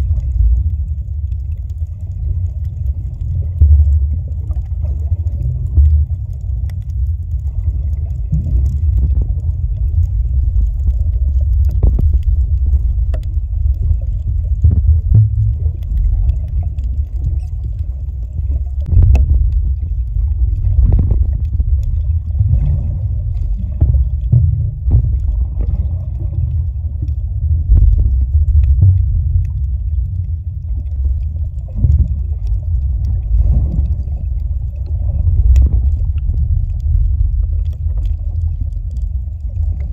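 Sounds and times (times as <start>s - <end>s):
underwater water rumble: 0.0s - 39.9s.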